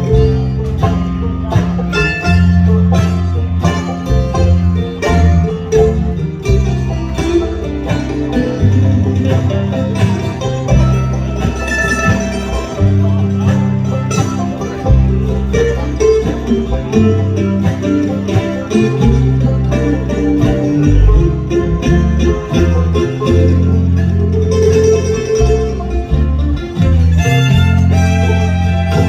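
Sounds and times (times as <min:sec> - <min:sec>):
banjo picking: 0:00.0 - 0:29.0
bluegrass band playing: 0:00.0 - 0:29.0
guitar picking: 0:00.0 - 0:29.0.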